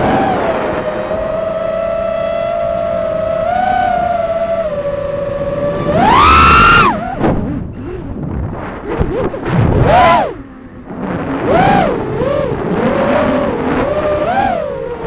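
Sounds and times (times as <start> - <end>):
quadcopter motors whining: 0.0 - 8.2, 9.0 - 10.8, 11.4 - 15.0.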